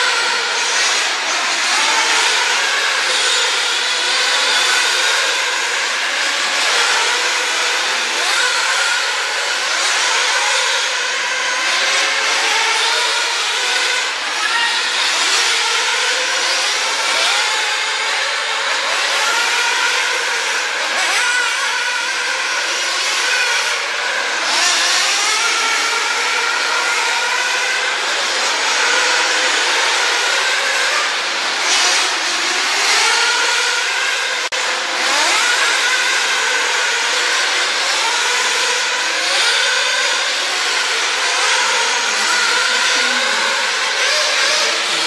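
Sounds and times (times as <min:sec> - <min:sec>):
radio-controlled car motors whining: 0:00.0 - 0:45.0.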